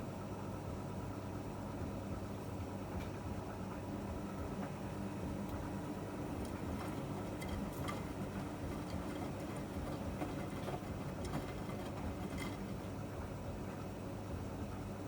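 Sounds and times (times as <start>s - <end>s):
washing machine motor hum: 1.5s - 15.0s.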